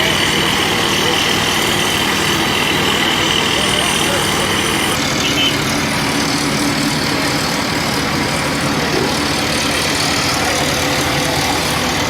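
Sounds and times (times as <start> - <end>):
constant rushing noise: 0.0 - 12.0
truck engine running: 0.0 - 12.0.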